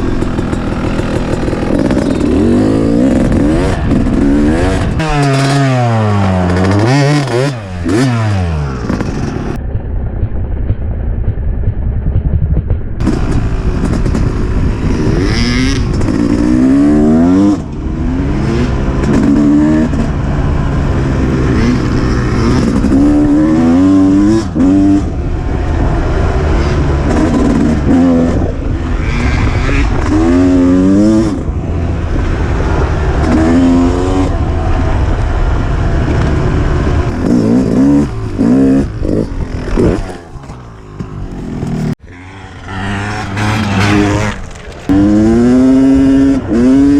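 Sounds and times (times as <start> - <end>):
dirt bike engine revving: 0.0 - 9.6, 13.0 - 46.9.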